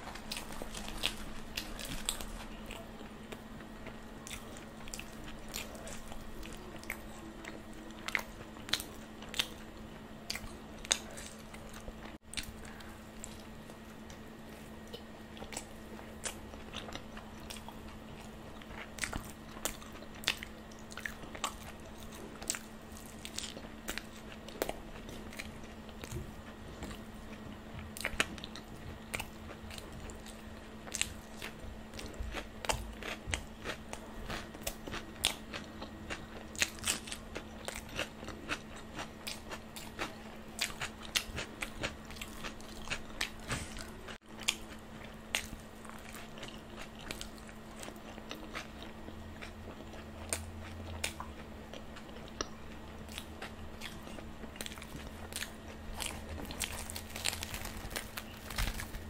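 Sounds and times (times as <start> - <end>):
chewing food: 0.0 - 59.0
steady low hum: 0.0 - 59.0.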